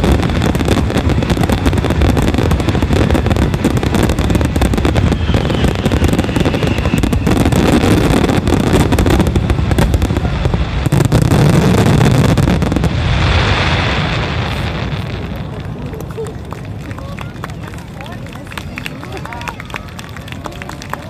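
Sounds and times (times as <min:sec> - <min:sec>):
fireworks bursts banging: 0:00.0 - 0:21.0.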